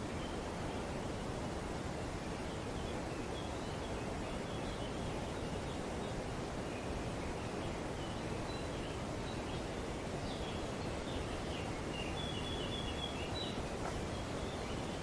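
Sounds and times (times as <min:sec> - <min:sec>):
wind rushing through foliage: 0:00.0 - 0:15.0
faint bird chirps: 0:02.4 - 0:15.0.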